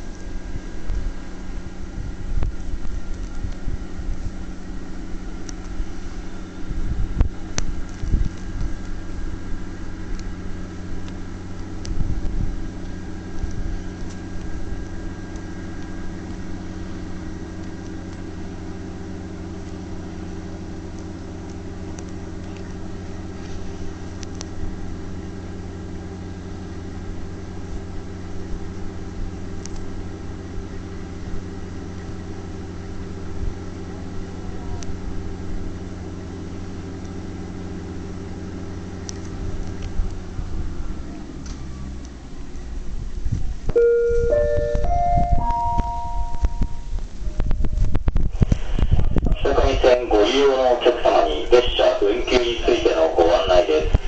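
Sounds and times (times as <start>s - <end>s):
motor car engine running steadily: 0.0s - 54.0s.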